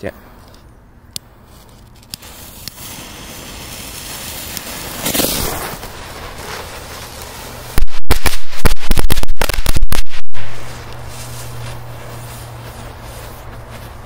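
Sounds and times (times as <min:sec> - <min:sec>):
hiss of burning pyrotechnics: 0:01.5 - 0:14.0
firecrackers cracking: 0:01.6 - 0:14.0.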